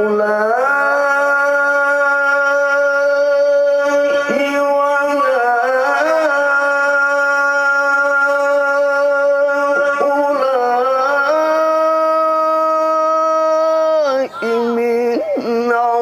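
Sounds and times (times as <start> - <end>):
man reciting melodic chant: 0.0 - 16.0.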